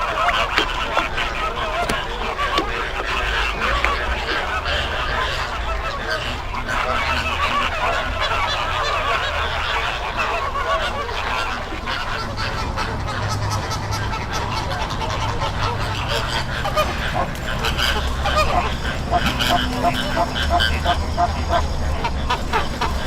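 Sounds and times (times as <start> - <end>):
flamingos honking: 0.0 - 23.0.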